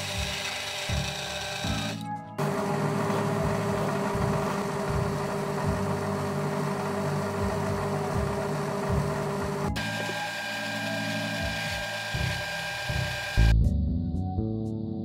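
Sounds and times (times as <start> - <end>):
metal lathe humming with whine: 0.0 - 13.5.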